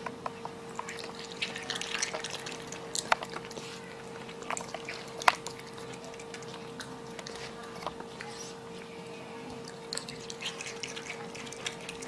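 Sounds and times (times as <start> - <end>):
faint steady hum: 0.0 - 12.0
raccoon chewing wet smacking: 0.7 - 12.0.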